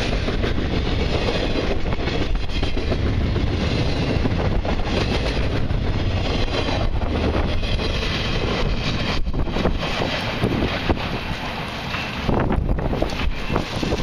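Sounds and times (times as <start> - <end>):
freight train wheels rumbling on rail: 0.0 - 14.0
wind buffeting microphone: 0.0 - 14.0.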